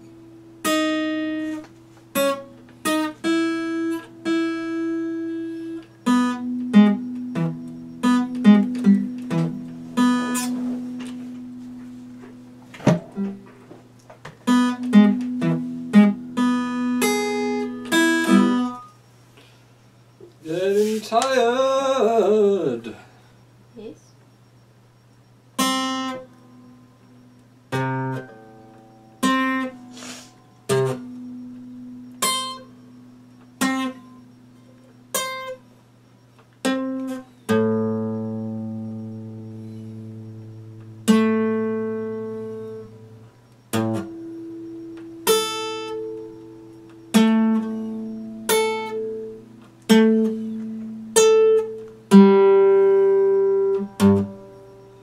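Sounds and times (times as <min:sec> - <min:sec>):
acoustic guitar played slowly: 0:00.0 - 0:23.5, 0:25.6 - 0:55.0.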